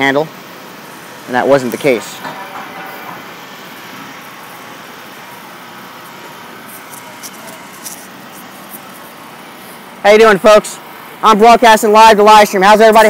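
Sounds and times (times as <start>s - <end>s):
distant vehicle engines humming: 0.0s - 13.0s.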